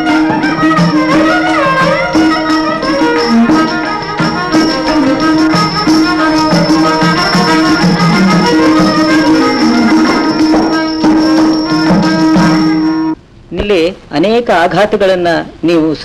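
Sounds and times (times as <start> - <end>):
sliding melody: 0.0 - 13.2
steady held notes: 0.0 - 13.2.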